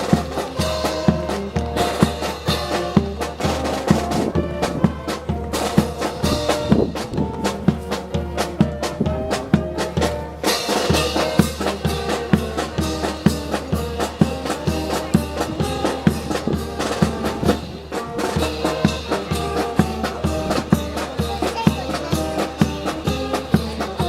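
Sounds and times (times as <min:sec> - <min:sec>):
brass band playing: 0:00.0 - 0:24.0
drums keeping a beat: 0:00.0 - 0:24.0.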